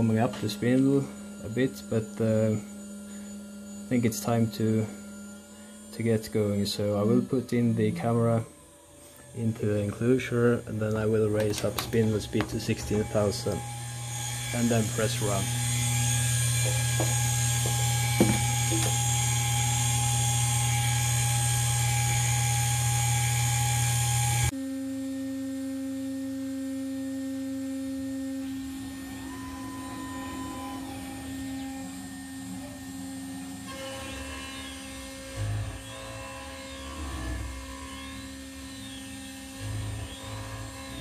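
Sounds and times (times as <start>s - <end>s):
higher whine: 0.0s - 41.0s
router spindle electric whine: 0.0s - 41.0s.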